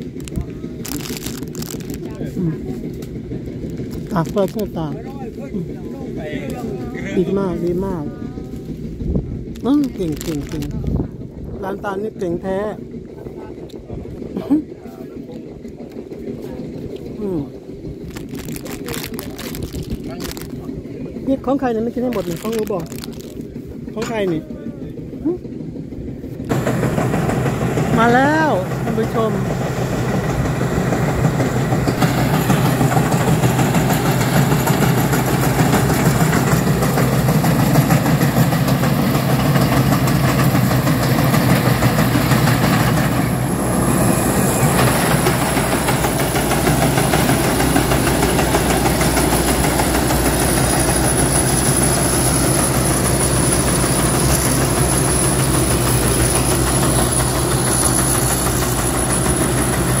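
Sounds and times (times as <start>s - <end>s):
combine harvester rattling: 0.0s - 60.0s.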